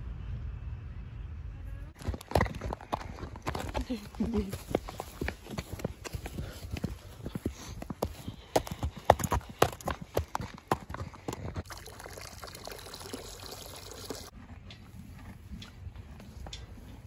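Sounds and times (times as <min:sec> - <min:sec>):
horse hooves clip-clopping: 0:02.0 - 0:17.0.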